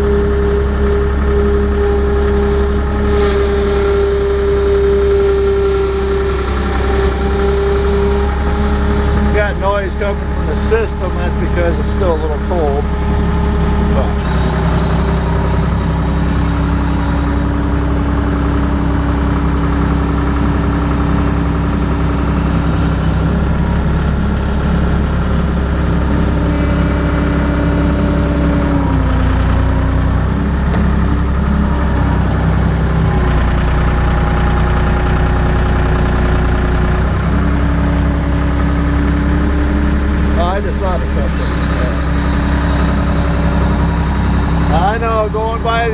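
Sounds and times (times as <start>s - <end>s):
diesel engine running: 0.0s - 45.9s
high whine: 0.0s - 45.9s
hydraulic system noise: 0.2s - 23.4s, 24.9s - 45.9s.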